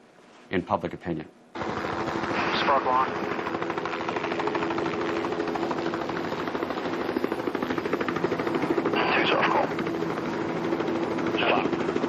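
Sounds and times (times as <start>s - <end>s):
constant droning tone: 1.6s - 12.0s.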